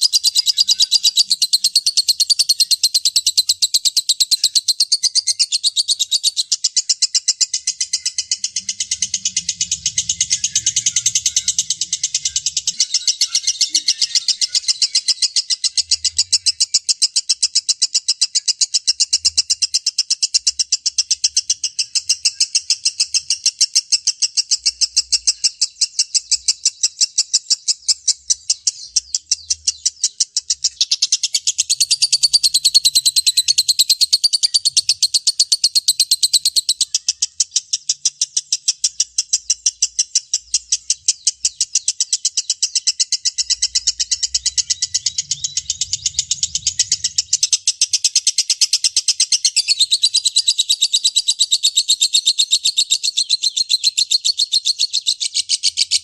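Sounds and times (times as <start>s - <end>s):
bird chattering high chirps: 0.0s - 56.0s.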